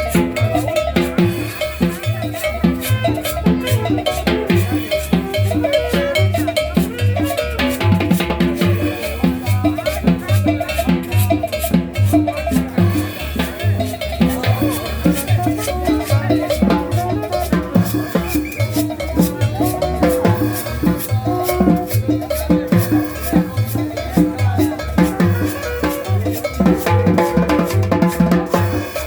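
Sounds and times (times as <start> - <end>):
latin dance music: 0.0 - 29.0.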